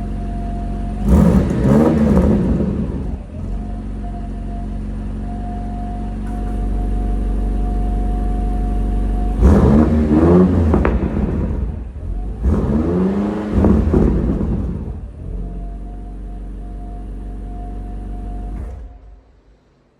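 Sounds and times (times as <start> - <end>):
car engine idling and revving: 0.0 - 19.9.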